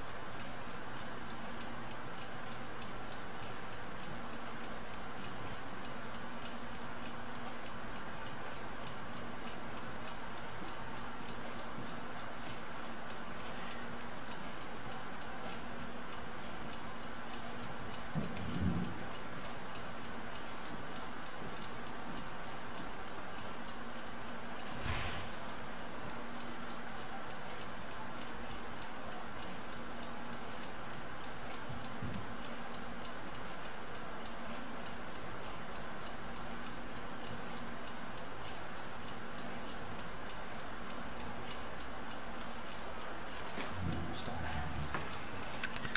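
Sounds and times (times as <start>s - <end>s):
faint background hum: 0.0s - 45.9s
mechanical clock ticking rapidly: 0.0s - 45.9s.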